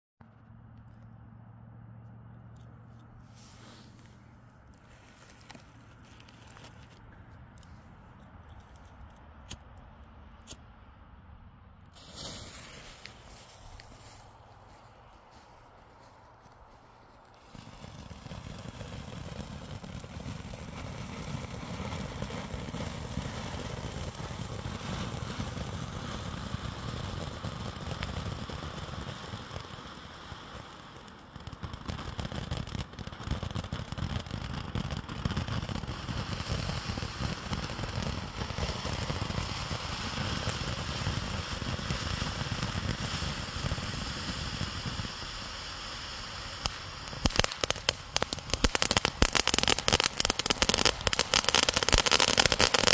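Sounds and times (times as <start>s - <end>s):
firework rushing hiss: 3.2s - 7.0s, 11.9s - 15.7s, 17.3s - 52.9s
firework crackling pops: 3.3s - 7.8s, 11.9s - 52.9s.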